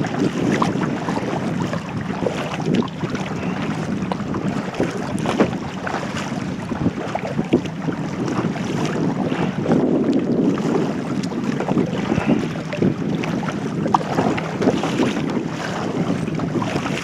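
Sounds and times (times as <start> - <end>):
short water splashes: 0.0 - 17.0
water lapping around kayak: 0.0 - 17.0
wind rumbling on microphone: 0.0 - 17.0.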